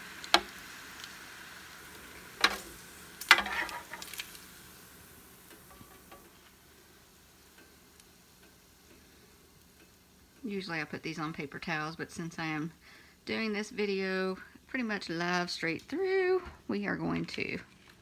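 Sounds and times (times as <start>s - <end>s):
bacon fat sizzling: 0.0s - 18.0s.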